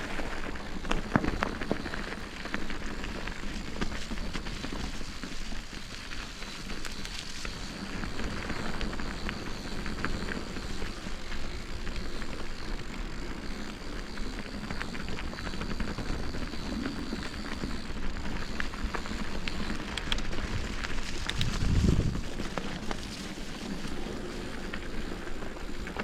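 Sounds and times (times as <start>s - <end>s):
bicycle tyres rolling on trail: 0.0s - 26.0s
steady rushing noise: 0.0s - 26.0s.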